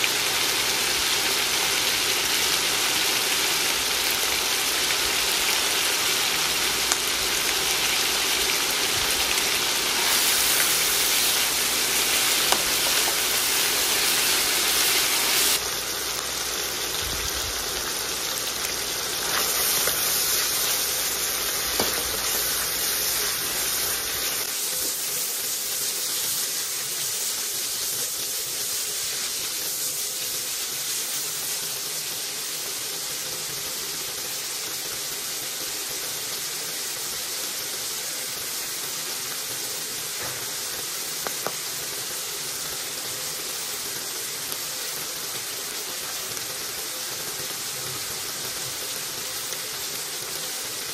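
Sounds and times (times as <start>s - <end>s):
meat and onion sizzling in wok: 0.0s - 50.9s.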